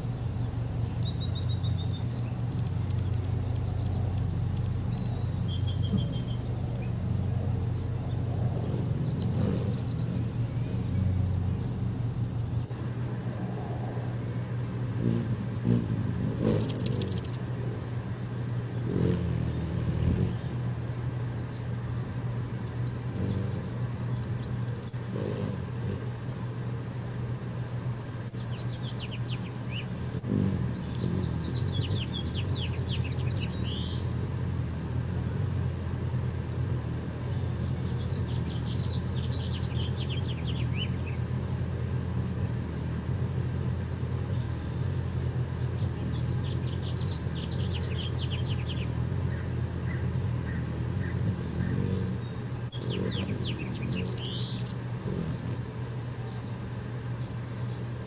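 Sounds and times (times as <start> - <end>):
distant traffic rumble: 0.0 - 58.0
small birds chirping: 0.0 - 58.0.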